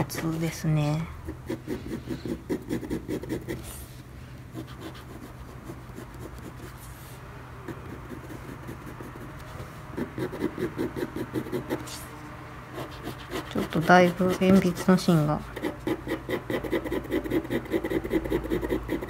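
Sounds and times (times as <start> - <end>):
pencil scratching on paper: 1.2 - 19.0.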